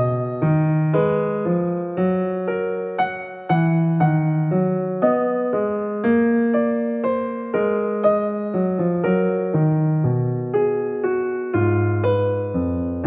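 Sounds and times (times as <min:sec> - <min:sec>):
slow electric piano melody: 0:00.0 - 0:13.0.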